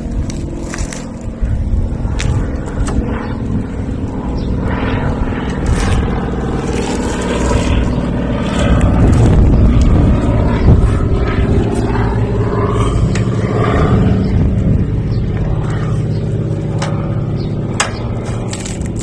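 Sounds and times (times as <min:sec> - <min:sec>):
motor running: 0:00.0 - 0:19.0.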